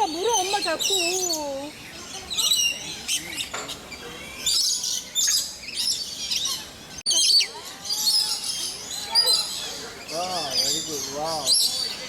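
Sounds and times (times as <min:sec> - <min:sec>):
birds chirping in dense chorus: 0:00.0 - 0:12.0.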